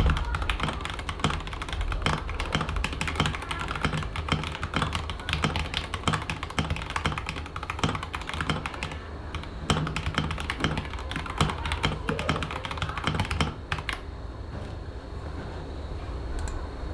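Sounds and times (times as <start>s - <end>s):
mechanical keyboard clacking: 0.0s - 14.0s
steady low hum: 0.0s - 16.9s.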